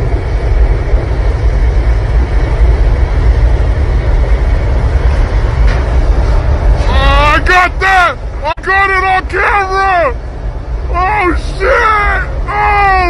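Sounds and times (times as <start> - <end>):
aircraft engine rumble: 0.0 - 13.0
wind buffeting microphone: 0.0 - 13.0.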